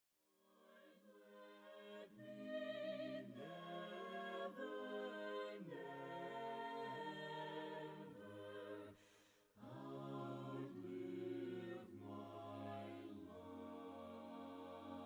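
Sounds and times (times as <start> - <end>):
a cappella choir singing: 0.6 - 15.0.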